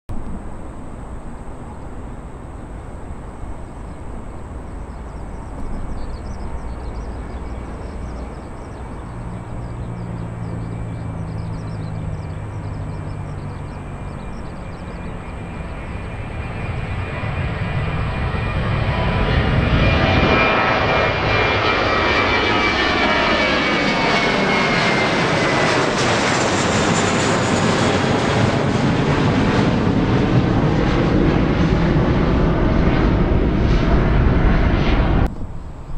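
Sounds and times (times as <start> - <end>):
jet engine whine falling in pitch: 0.1 - 35.9
jet engines rushing: 0.1 - 35.9.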